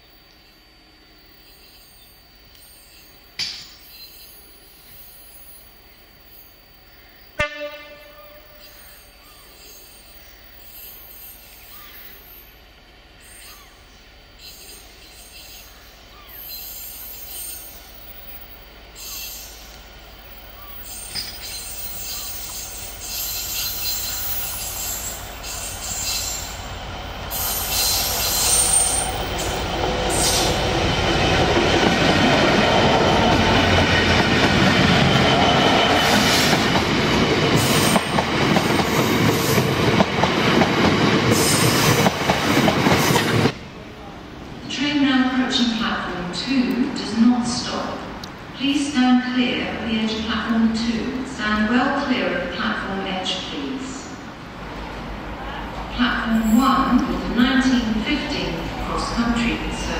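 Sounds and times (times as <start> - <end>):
diesel locomotive passing: 3.9 - 59.9.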